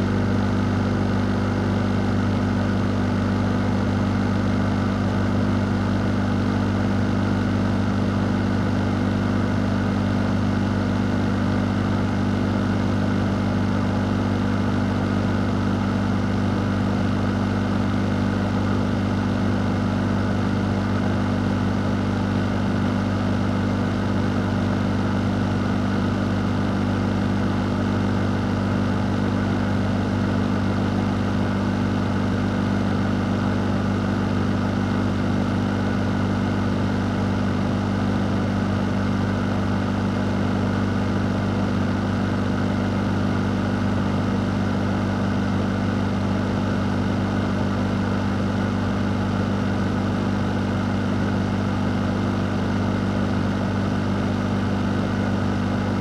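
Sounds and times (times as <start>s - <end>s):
fan running: 0.0s - 56.0s.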